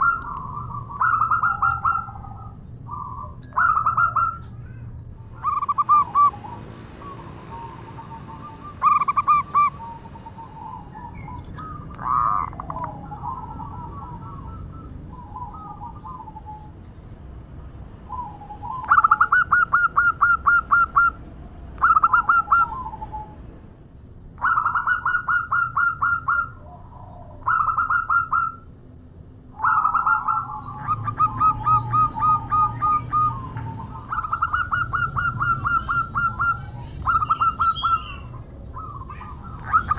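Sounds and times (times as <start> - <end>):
dove cooing: 0.0 - 4.8, 5.4 - 16.7, 18.1 - 21.2, 21.8 - 23.4, 24.4 - 28.7, 29.5 - 39.9.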